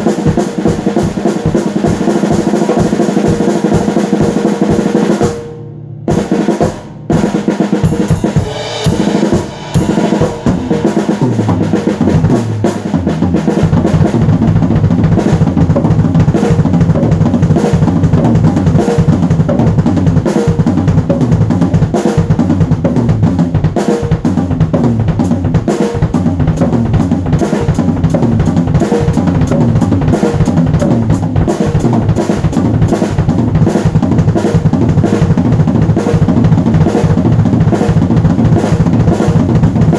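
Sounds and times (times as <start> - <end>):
drum kit playing fast: 0.0 - 39.9.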